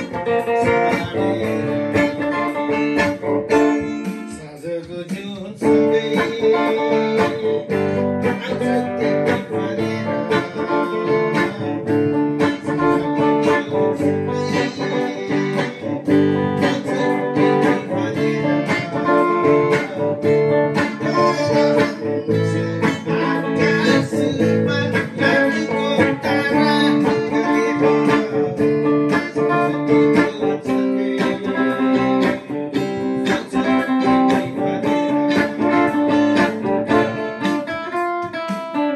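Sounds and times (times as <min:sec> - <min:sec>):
electric guitar notes and chords: 0:00.0 - 0:38.9.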